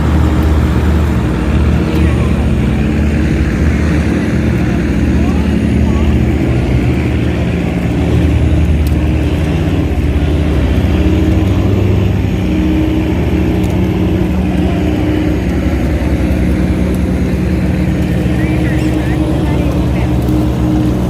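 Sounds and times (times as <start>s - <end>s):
tugboat diesel engine drone: 0.0s - 21.0s.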